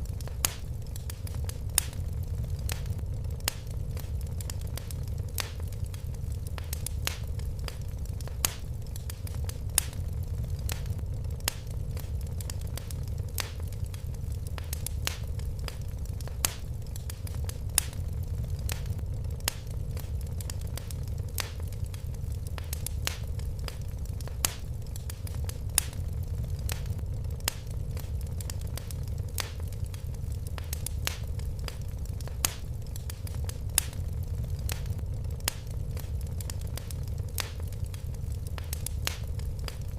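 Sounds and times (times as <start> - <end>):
fire flames rumbling: 0.0 - 39.9
fire pops and snaps: 0.0 - 39.9.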